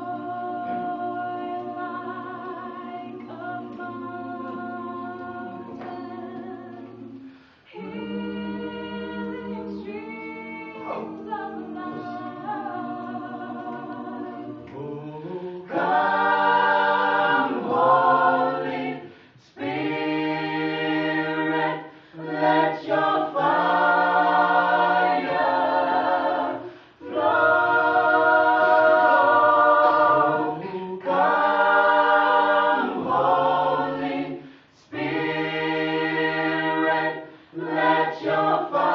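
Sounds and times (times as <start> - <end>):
group singing a cappella: 0.0 - 38.9.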